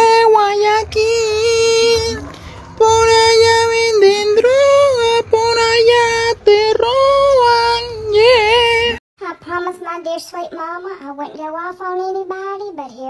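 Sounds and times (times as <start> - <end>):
high-pitched voice singing: 0.0 - 13.0.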